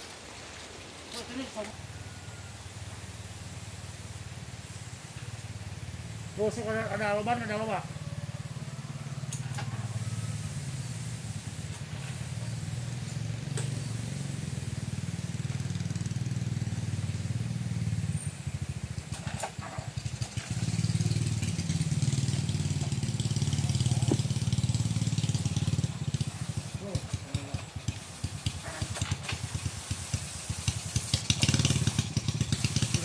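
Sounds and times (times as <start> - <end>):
small engine pulsing hum: 0.5 - 33.0.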